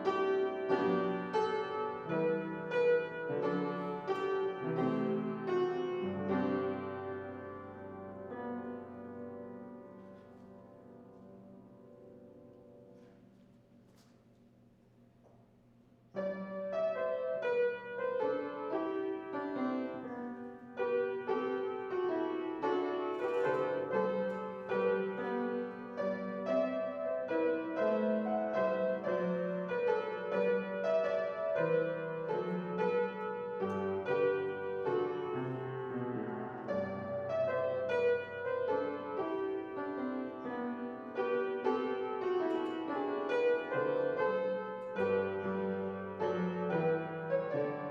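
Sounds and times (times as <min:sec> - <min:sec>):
piano piece: 0:00.0 - 0:47.9.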